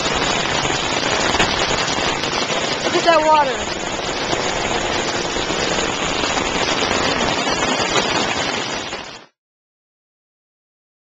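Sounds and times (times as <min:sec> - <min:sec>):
heavy rain pouring onto pavement: 0:00.0 - 0:09.4.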